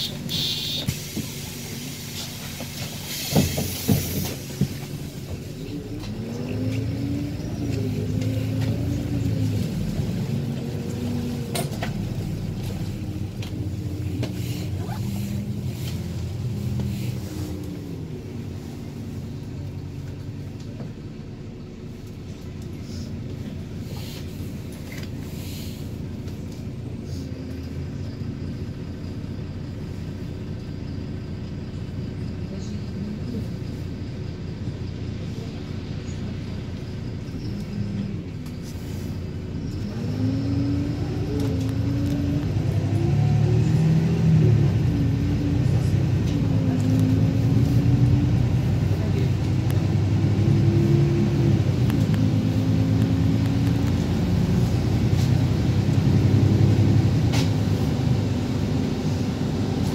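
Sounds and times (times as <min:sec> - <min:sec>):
bus engine with whine: 0:00.0 - 0:59.9.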